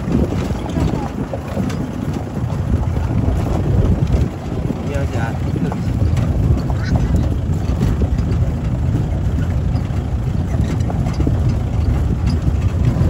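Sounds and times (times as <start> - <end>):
jeep engine low rumble: 0.0 - 13.0.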